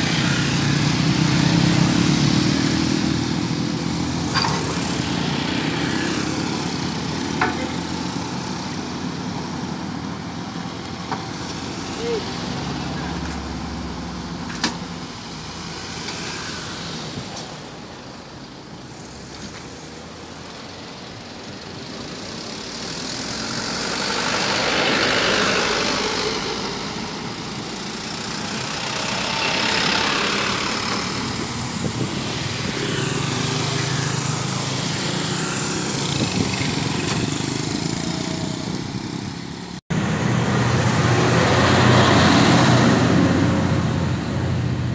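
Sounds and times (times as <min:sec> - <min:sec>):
diesel truck engine: 0:00.0 - 0:44.9
road noise: 0:00.0 - 0:44.9
truck passing close: 0:00.0 - 0:44.9.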